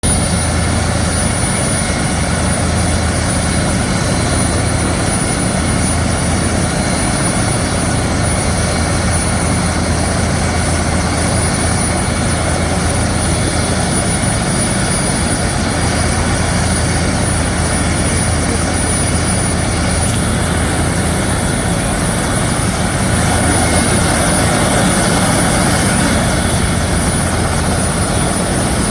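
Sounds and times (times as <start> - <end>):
aircraft engine rumble: 0.0 - 28.9
high constant whine: 0.0 - 28.9.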